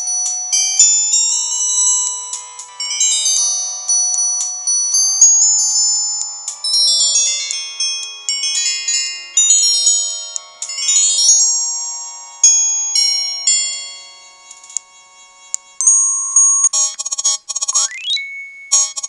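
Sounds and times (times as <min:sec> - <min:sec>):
phone ringtone melody: 0:00.0 - 0:19.0.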